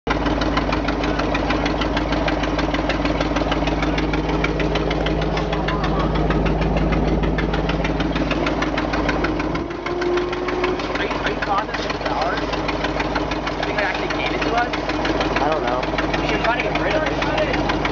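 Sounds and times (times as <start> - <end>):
truck engine clattering: 0.1 - 17.9.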